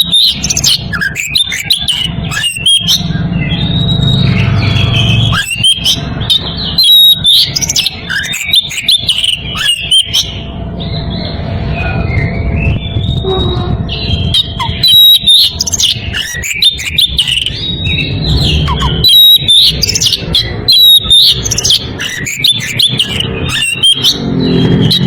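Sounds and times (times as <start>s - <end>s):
low background rumble: 0.0s - 22.0s
bird singing whistles and chirps: 0.0s - 25.0s.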